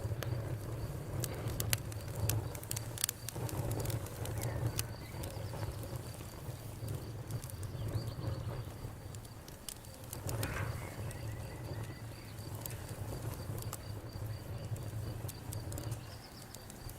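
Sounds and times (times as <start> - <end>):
campfire crackling: 0.0 - 16.9.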